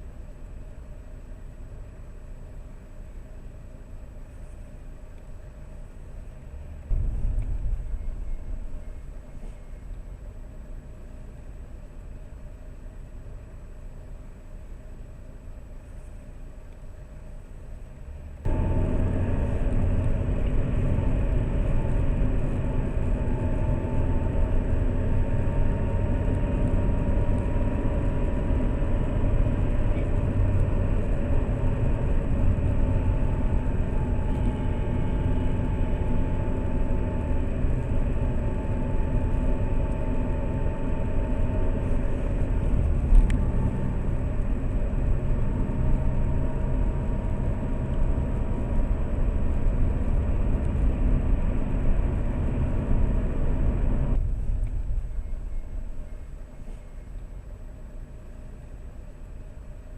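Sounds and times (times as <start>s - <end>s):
engine and tyre rumble in car: 0.0s - 59.9s.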